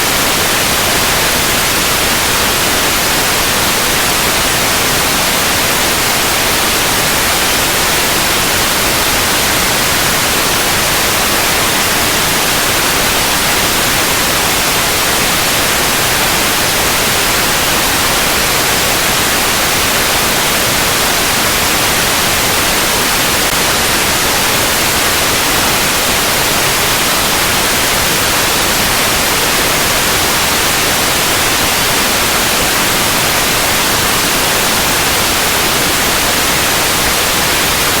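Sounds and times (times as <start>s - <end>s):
white noise hiss: 0.0s - 38.0s.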